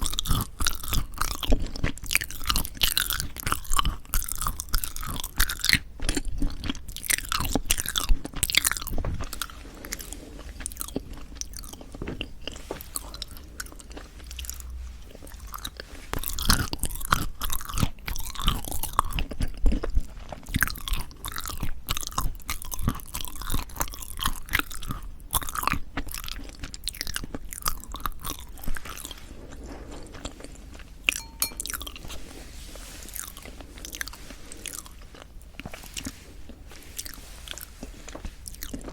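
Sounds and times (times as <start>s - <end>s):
chewing mouth sounds: 0.0s - 38.9s.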